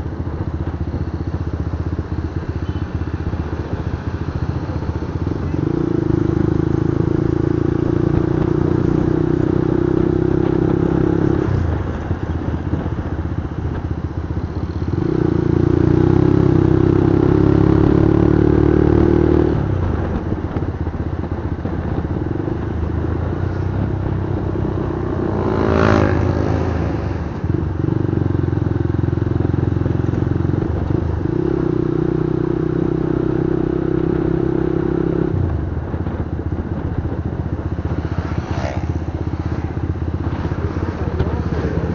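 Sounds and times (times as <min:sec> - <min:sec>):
motorcycle engine running: 0:00.0 - 0:41.9
road and wind noise: 0:00.0 - 0:41.9.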